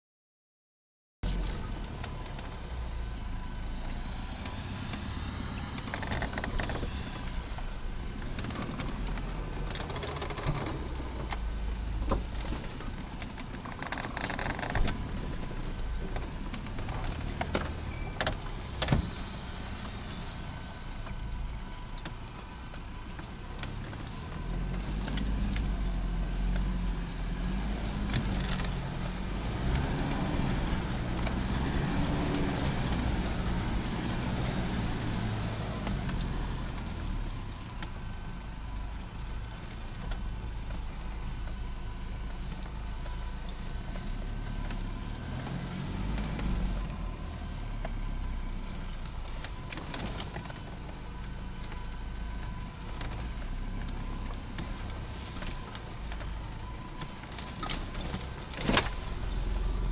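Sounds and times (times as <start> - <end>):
off-road vehicle engine running: 1.2 - 59.9.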